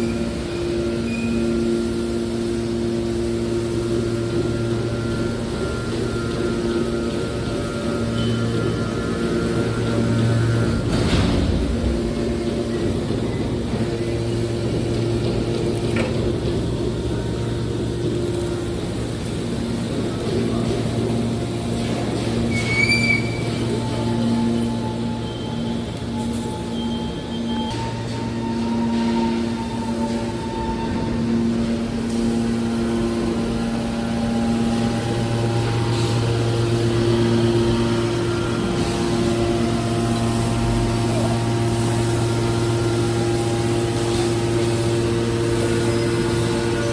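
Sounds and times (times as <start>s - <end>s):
machinery humming: 0.0s - 46.9s.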